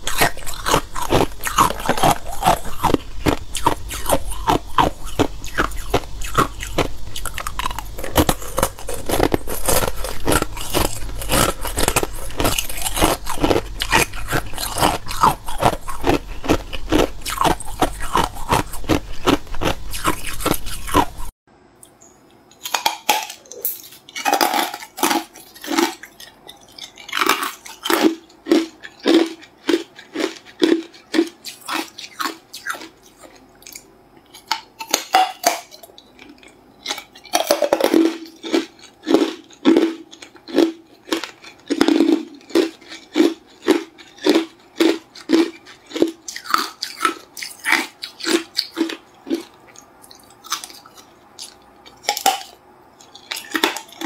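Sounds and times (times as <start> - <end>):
ice crunching when chewed: 0.0 - 21.3, 22.6 - 54.0.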